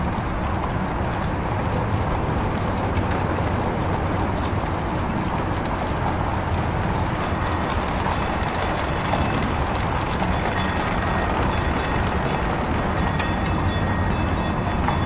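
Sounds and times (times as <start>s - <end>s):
streetcar rumbling on rails: 0.0s - 15.0s.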